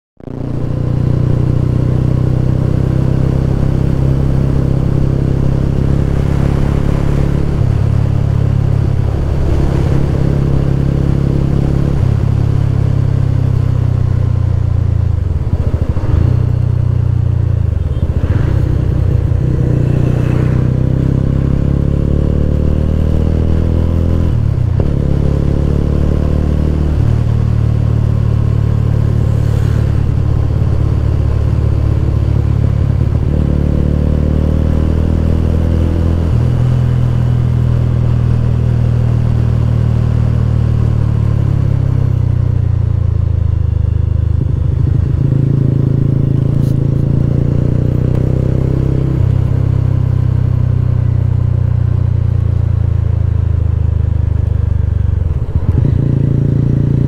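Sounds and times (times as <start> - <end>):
motorcycle engine revving: 0.2 - 57.0.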